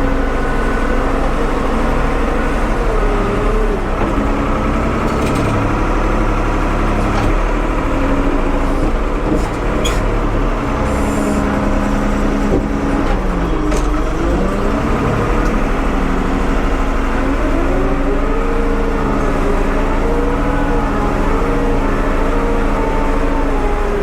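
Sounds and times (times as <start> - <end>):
backhoe engine running: 0.0 - 24.0.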